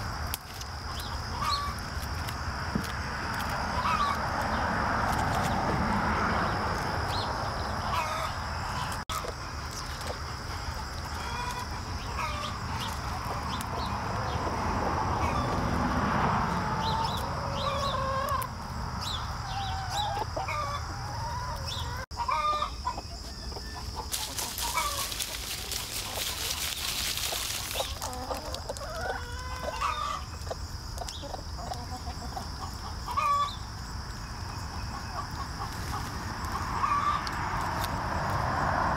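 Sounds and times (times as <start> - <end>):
hens clucking: 0.0 - 38.5.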